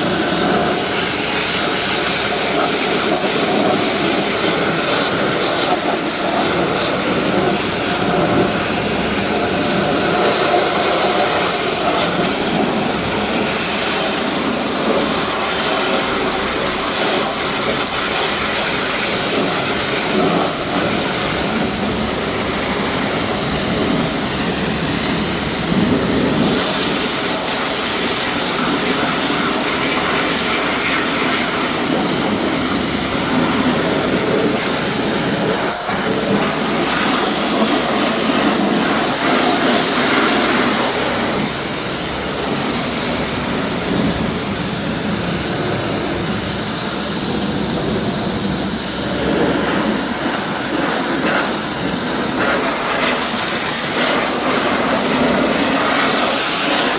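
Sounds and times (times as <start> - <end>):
car wash equipment rushing: 0.0 - 56.9.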